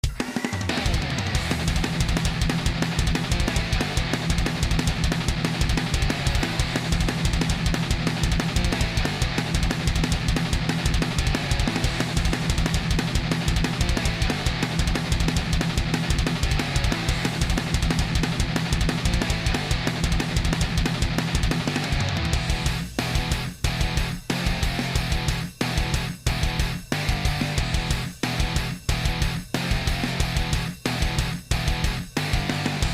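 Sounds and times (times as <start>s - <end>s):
fast rock music: 0.0s - 32.9s.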